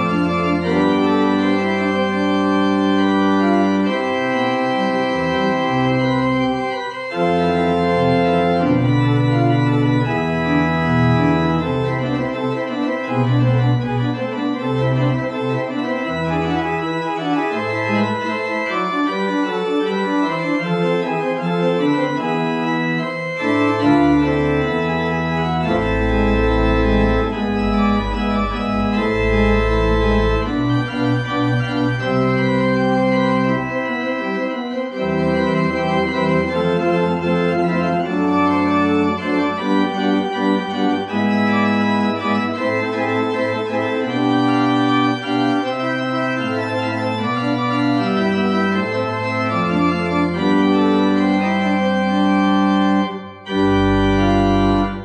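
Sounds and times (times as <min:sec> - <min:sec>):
church organ playing chords: 0:00.0 - 0:55.0
deep organ bass pedal notes: 0:00.0 - 0:55.0.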